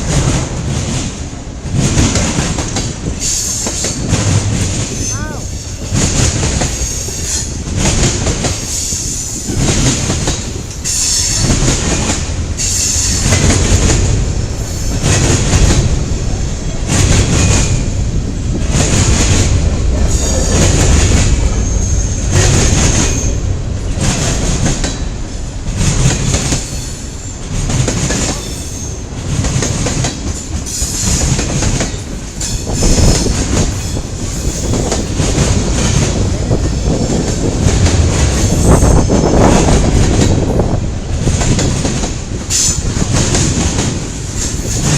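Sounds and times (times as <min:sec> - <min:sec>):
train wheels clacking over rail joints: 0:00.0 - 0:44.9.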